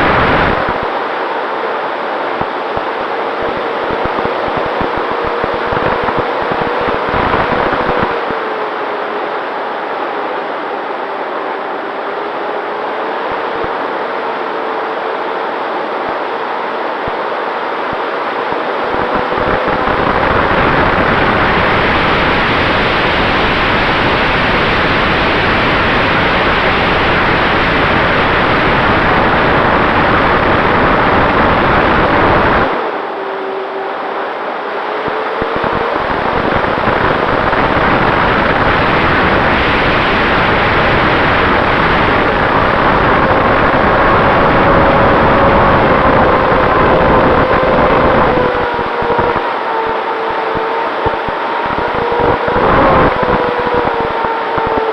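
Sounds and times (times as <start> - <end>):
wind rushing over microphone: 0.0 - 11.1, 12.0 - 33.2, 33.9 - 54.9
electric motor and propeller hum: 0.0 - 54.9.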